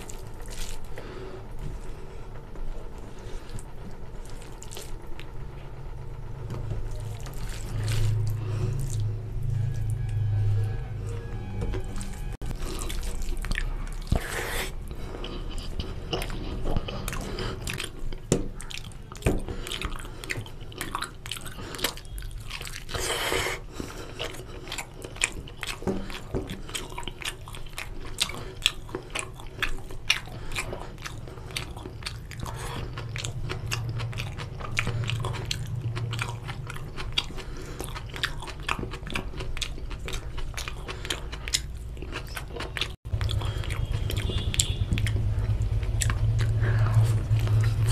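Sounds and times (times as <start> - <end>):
man chewing with wet smacks: 0.0 - 5.4, 11.8 - 47.9.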